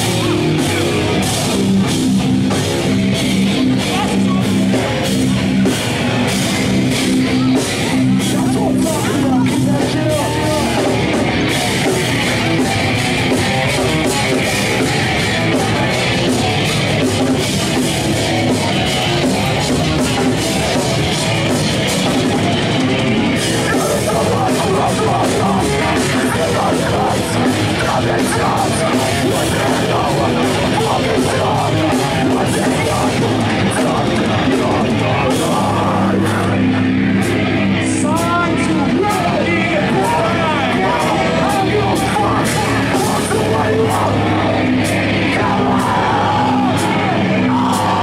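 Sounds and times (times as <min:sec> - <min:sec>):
live heavy metal band: 0:00.0 - 0:48.0
rapid drum hits: 0:00.0 - 0:48.0.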